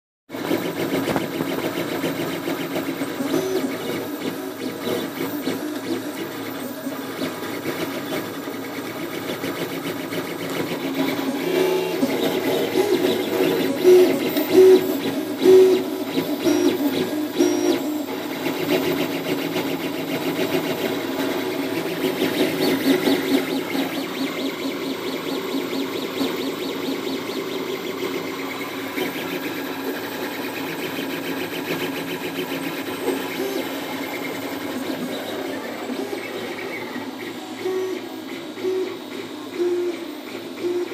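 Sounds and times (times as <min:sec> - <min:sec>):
stepper motors whining and buzzing: 0:00.3 - 0:40.9.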